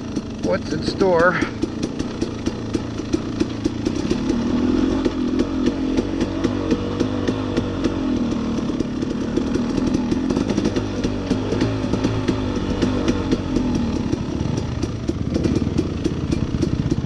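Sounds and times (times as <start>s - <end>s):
dirt bike engine: 0.0s - 17.0s
knocks and clatter from bike: 0.0s - 17.0s.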